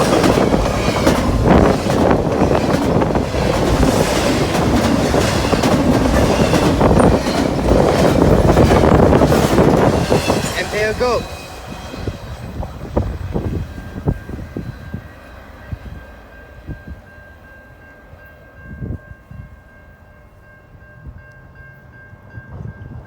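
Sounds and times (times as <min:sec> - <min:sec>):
wind buffeting microphone: 0:00.0 - 0:17.1, 0:18.6 - 0:19.7, 0:20.7 - 0:23.0
train cars rumbling past: 0:00.0 - 0:23.0.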